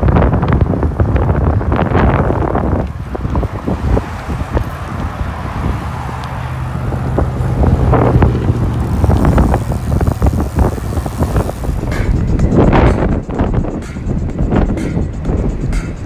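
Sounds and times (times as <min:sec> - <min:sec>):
vehicle engine humming: 0:00.0 - 0:14.3
wind buffeting microphone: 0:00.0 - 0:16.0.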